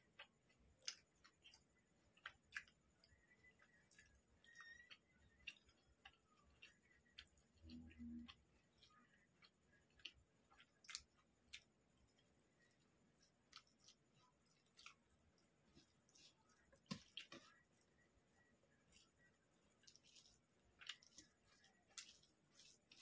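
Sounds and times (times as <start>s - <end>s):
fingers squishing rice: 0.0s - 23.0s
wet chewing sounds: 0.0s - 23.0s.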